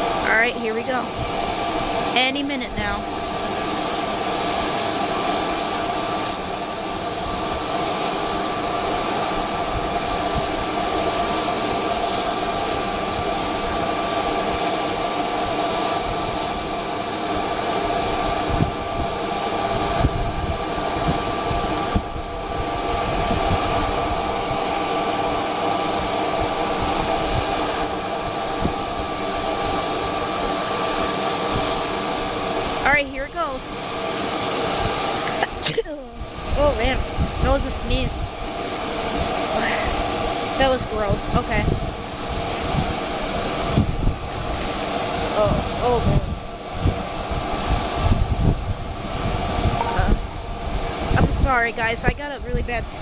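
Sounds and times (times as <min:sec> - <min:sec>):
jet engines idling: 0:00.0 - 0:53.0
wind buffeting microphone: 0:00.0 - 0:53.0.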